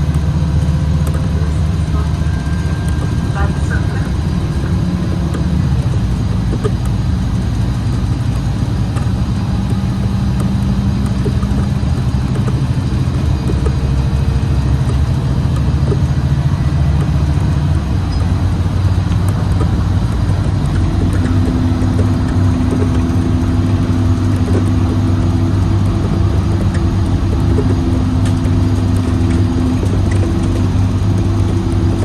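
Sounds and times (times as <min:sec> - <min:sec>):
bus engine humming: 0:00.0 - 0:32.0.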